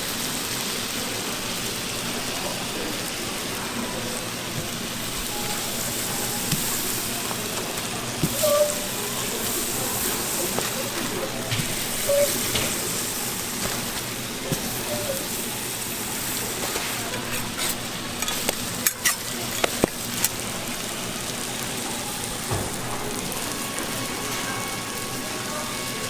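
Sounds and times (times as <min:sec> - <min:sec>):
food sizzling on a griddle: 0:00.0 - 0:26.0.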